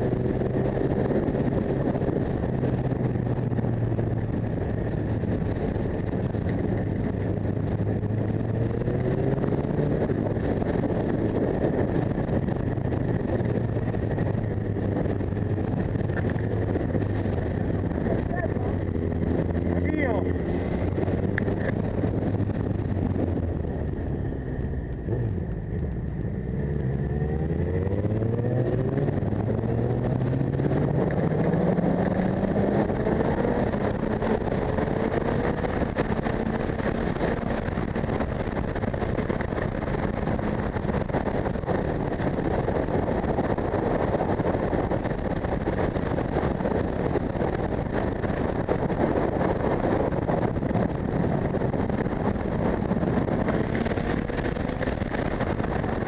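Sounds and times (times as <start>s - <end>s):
motorcycle engine accelerating: 0.0s - 56.0s
wind on microphone: 0.0s - 56.0s.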